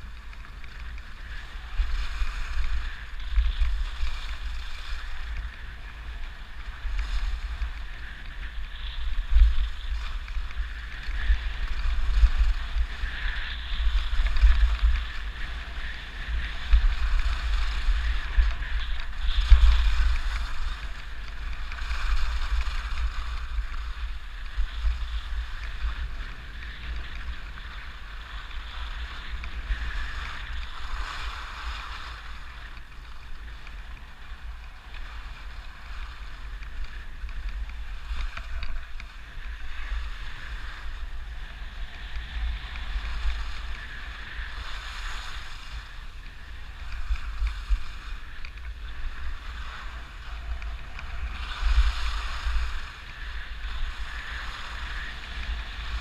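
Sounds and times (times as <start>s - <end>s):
skis scraping over snow: 0.0s - 56.0s
wind buffeting microphone: 0.0s - 56.0s.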